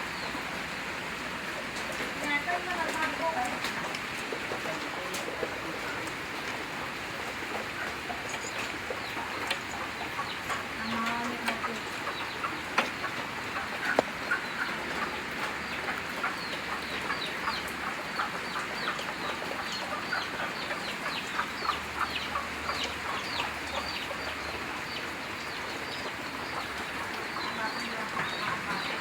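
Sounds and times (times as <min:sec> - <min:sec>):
chicks peeping and chirping: 0:00.1 - 0:29.0.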